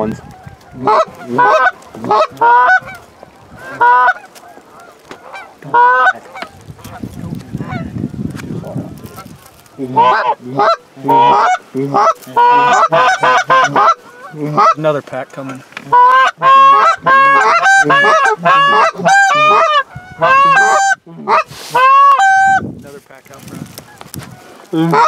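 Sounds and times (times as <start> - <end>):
goose honking: 0.0 - 7.9, 9.0 - 14.9, 15.8 - 22.6, 23.8 - 25.0.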